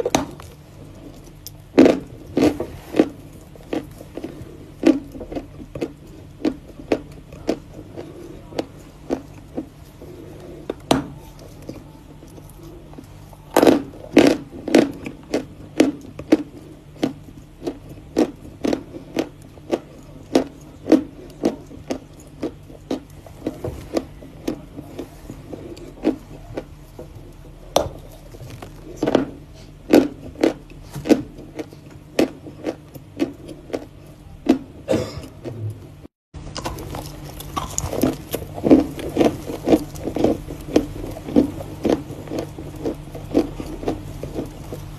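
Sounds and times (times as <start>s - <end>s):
chewing crunchy chalk: 0.0s - 35.6s, 36.5s - 44.9s.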